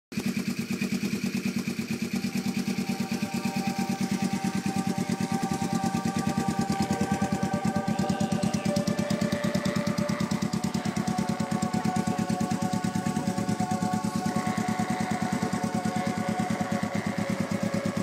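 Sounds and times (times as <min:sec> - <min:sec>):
motorcycle engine idling: 0:00.1 - 0:18.0.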